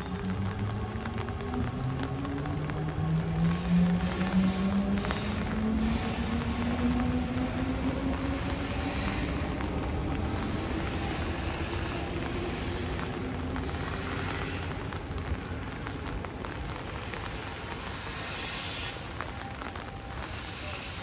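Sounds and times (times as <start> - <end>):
heavy rain hissing: 0.0 - 21.0
passing vehicle rumble: 0.0 - 21.0
raindrops ticking: 0.0 - 21.0.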